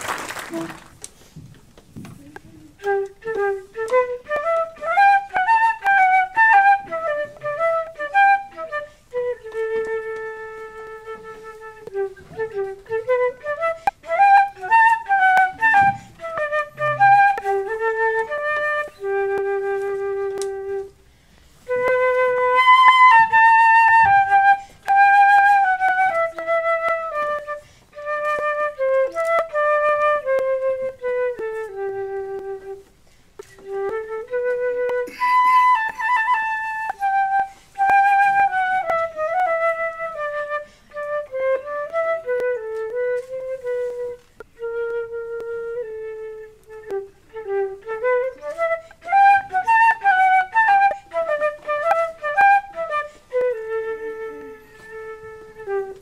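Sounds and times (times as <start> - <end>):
flute melody: 0.0 - 1.4, 2.1 - 56.0.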